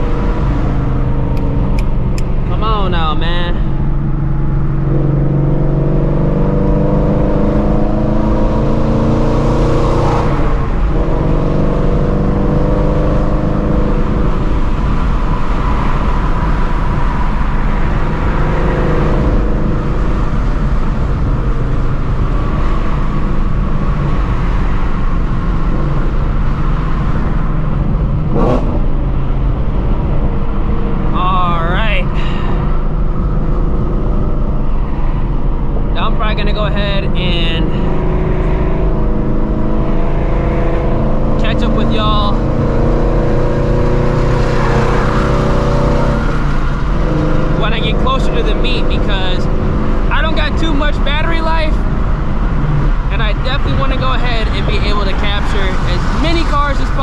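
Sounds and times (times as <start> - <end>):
car engine revving: 0.0 - 57.0
road noise: 0.0 - 57.0.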